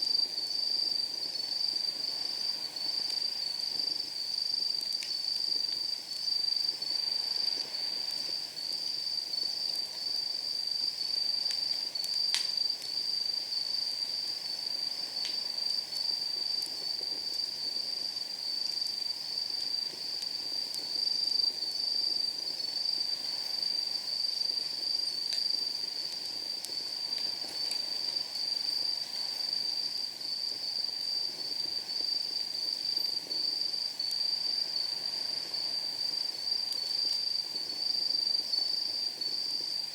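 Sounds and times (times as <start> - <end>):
night insects trilling: 0.0 - 39.9
campfire popping and crackling: 0.1 - 39.9.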